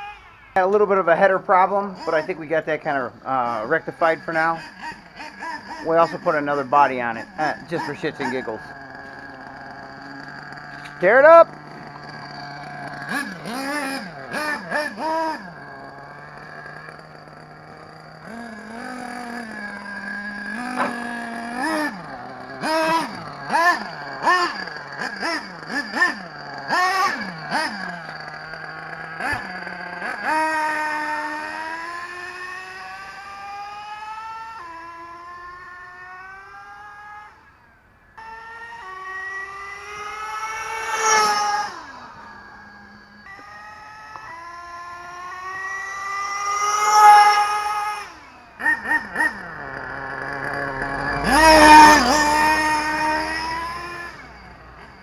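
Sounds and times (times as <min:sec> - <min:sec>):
nitro engine idling and revving: 0:00.0 - 0:55.0.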